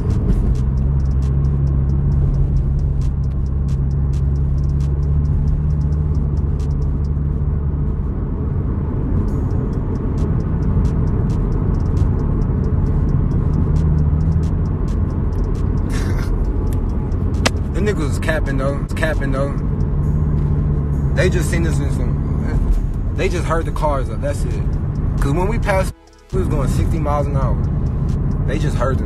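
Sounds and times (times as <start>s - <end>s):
car cabin rumble: 0.0s - 29.0s.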